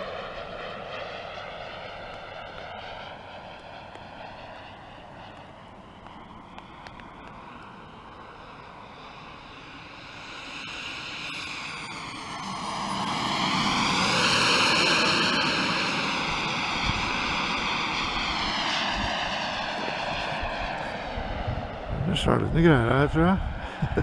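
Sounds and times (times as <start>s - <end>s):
model jet flying overhead: 0.0s - 24.0s.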